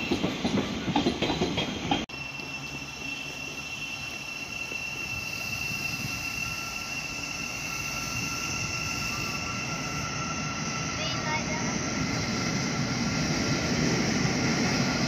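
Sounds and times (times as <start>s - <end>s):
train passing with high whine: 0.0s - 15.0s.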